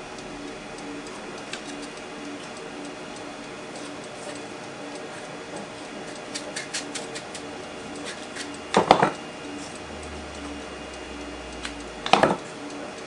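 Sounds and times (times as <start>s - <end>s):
wind-up clock ticking: 0.0s - 13.0s.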